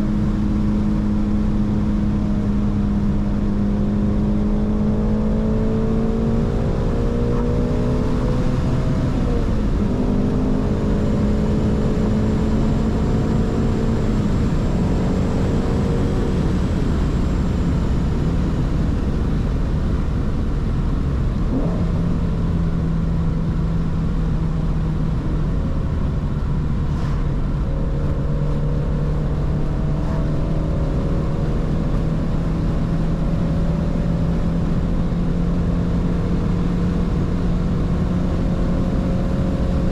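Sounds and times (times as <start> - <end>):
car engine cruising: 0.0 - 39.9
road and tyre noise: 0.0 - 39.9.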